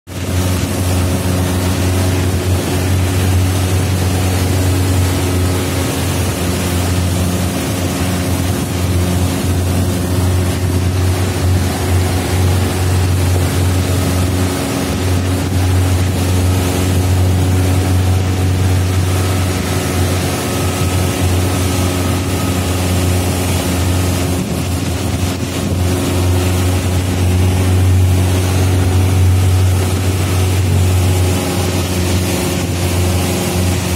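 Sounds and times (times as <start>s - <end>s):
motorboat engine humming: 0.1s - 33.9s
rushing wind: 0.1s - 33.9s
water noise: 0.1s - 33.9s.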